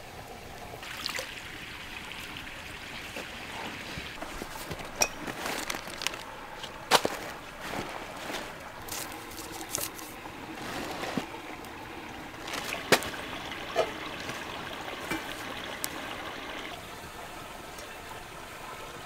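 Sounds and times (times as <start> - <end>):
stream trickling: 0.0 - 19.0.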